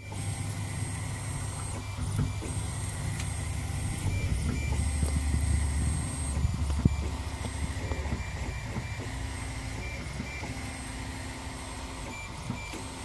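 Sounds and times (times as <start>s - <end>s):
stepper motors humming: 0.0s - 13.0s.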